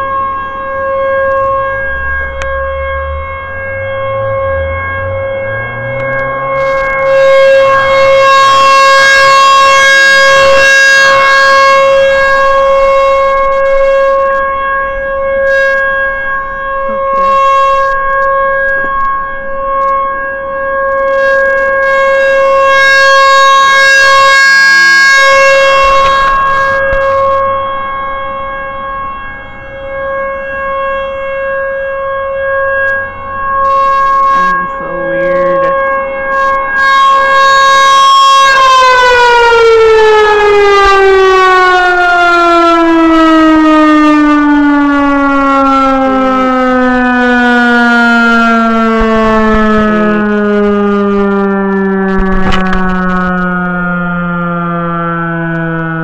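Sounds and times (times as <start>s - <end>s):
tornado siren wailing: 0.0s - 56.0s.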